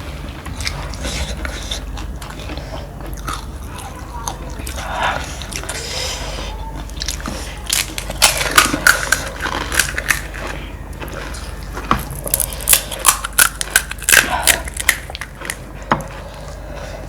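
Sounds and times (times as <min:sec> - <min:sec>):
chewing crisp snacks: 0:00.3 - 0:17.0.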